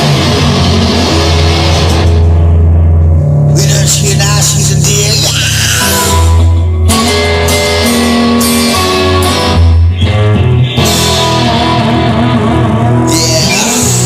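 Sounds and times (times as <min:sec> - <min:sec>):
bass and drums: 0:00.0 - 0:14.0
electric guitar: 0:00.0 - 0:14.0.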